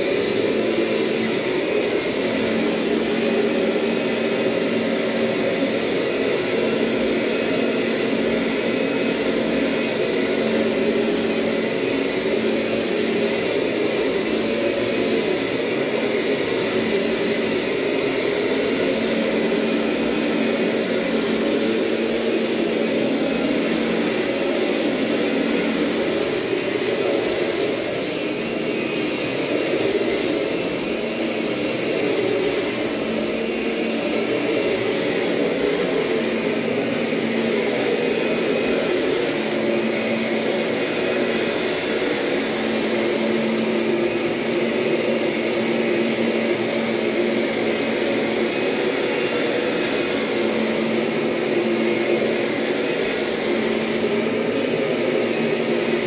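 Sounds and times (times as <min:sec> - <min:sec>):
vacuum motor whining: 0:00.0 - 0:56.0.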